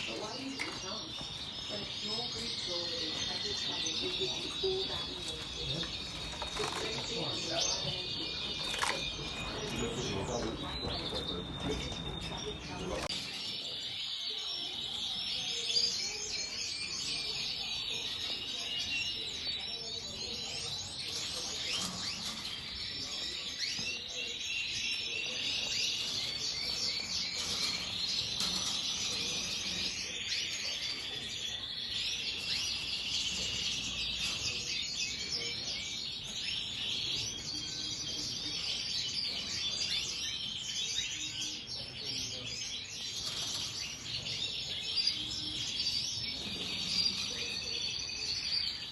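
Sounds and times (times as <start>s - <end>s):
cage birds chirping and twittering: 0.0s - 48.9s.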